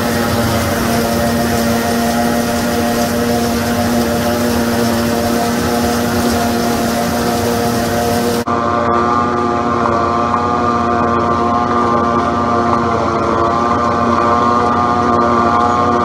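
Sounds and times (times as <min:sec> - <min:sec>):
forage harvester drone: 0:00.0 - 0:16.0
tractor running: 0:00.0 - 0:16.0.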